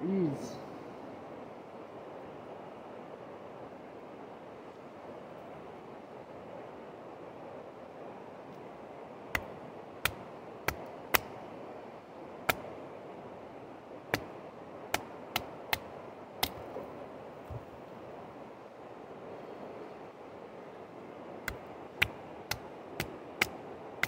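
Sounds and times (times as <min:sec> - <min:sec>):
river and wind rushing: 0:00.0 - 0:24.0.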